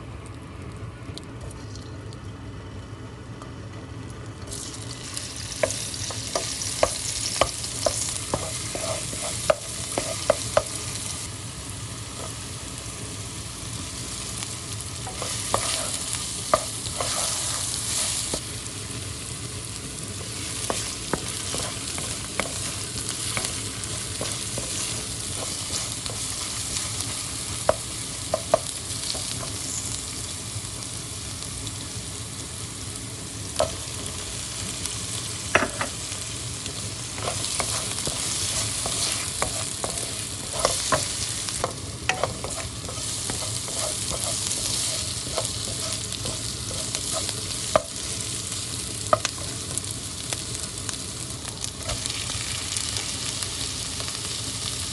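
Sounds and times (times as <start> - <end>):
food sizzling in a pan: 4.5 - 54.9.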